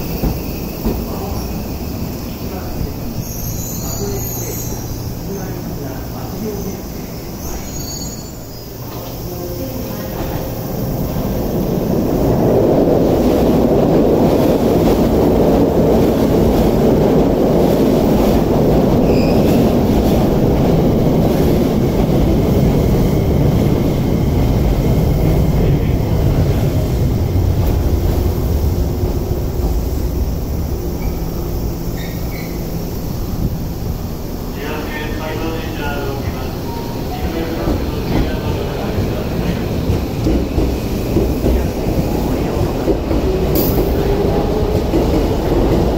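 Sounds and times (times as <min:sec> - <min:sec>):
electric train rumbling: 0:00.0 - 0:45.9.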